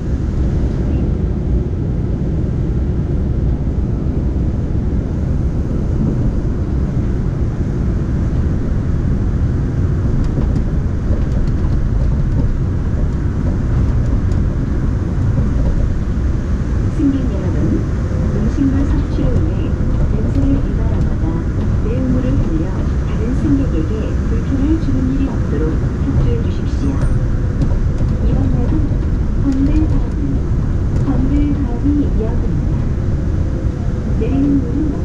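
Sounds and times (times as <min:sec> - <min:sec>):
train cabin rumble: 0:00.0 - 0:35.0.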